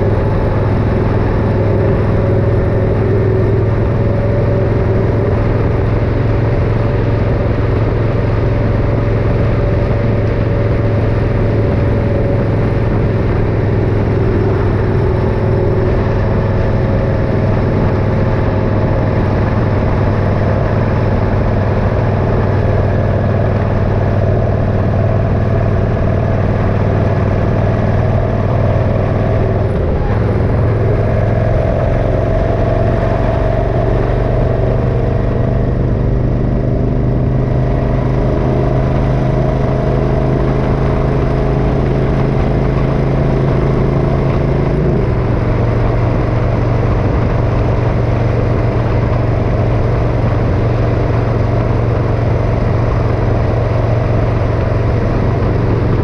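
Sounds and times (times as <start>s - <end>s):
motorcycle engine running: 0.0s - 56.0s
rushing noise: 0.0s - 56.0s.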